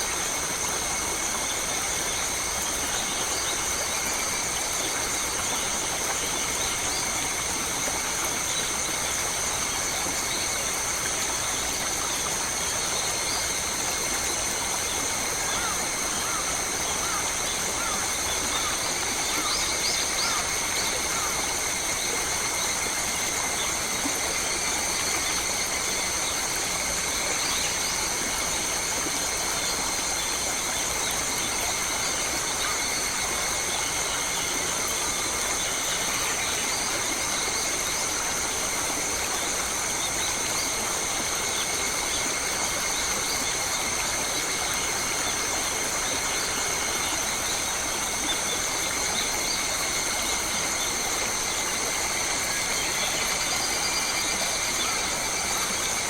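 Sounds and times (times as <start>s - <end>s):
flowing water: 0.0s - 56.0s
insects droning: 0.0s - 56.0s.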